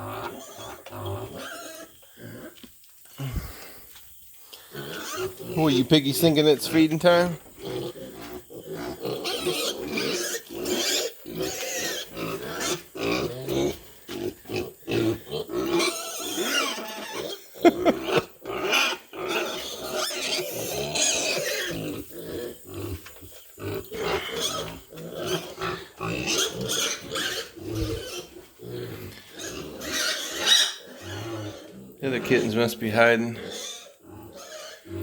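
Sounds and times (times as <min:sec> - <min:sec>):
pigs grunting and calling: 0:00.0 - 0:03.8, 0:04.6 - 0:35.0.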